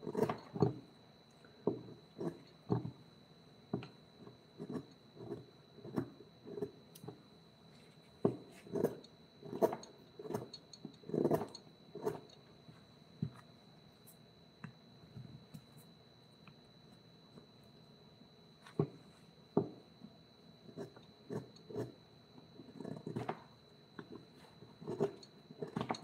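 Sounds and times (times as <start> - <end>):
faint steady high whine: 0.0 - 26.0.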